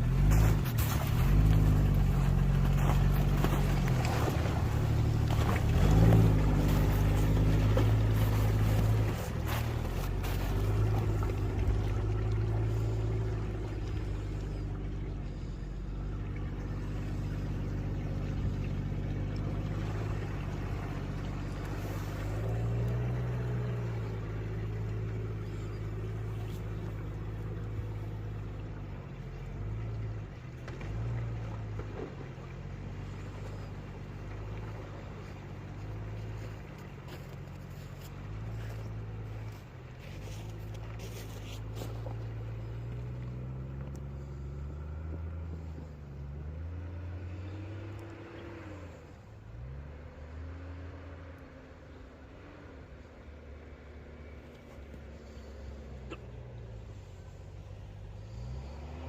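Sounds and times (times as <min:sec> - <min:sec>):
car engine revving off-road: 0:00.0 - 0:59.0.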